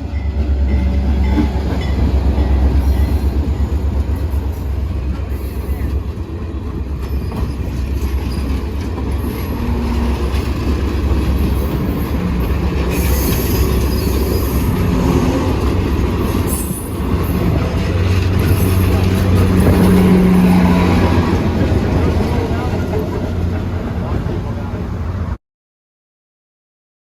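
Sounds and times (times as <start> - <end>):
train rumbling on rails: 0.0 - 25.4.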